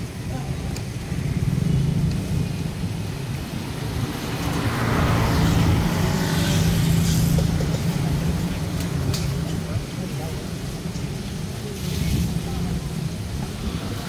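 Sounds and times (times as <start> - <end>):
low traffic engine hum: 0.0 - 14.0
vehicle passing: 1.2 - 14.0.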